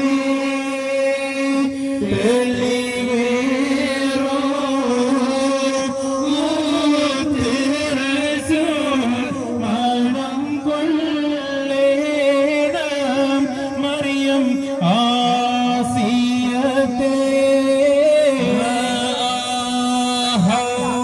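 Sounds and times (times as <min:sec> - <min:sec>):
devotional chanting over loudspeaker: 0:00.0 - 0:21.0.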